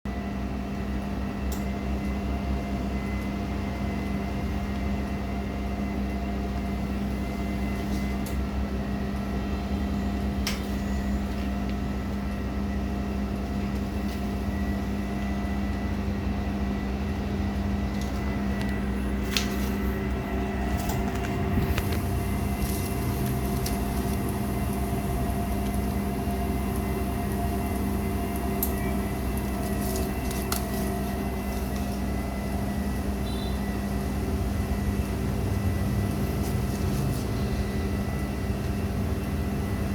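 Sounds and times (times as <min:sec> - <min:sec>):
motor hum with tones: 0:00.1 - 0:39.9.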